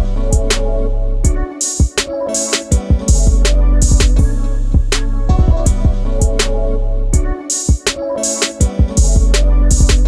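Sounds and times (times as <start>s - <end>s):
background music with drum beat: 0.0s - 0.6s, 1.2s - 6.6s, 7.2s - 10.0s.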